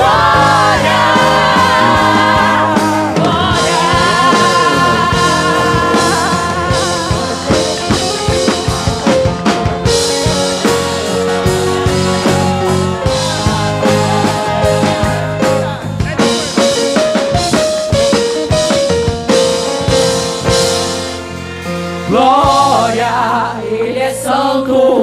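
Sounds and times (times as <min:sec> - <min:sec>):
drum kit strokes: 0:00.0 - 0:24.4
band playing instrumental: 0:00.0 - 0:24.9
steady bass: 0:00.0 - 0:25.0.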